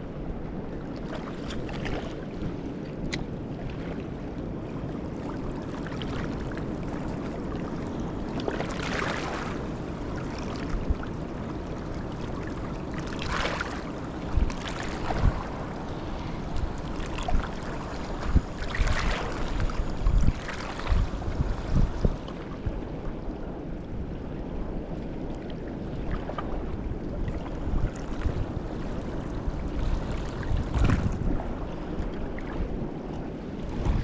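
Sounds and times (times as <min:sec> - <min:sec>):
wind buffeting microphone: 0:00.0 - 0:25.2, 0:25.8 - 0:34.0.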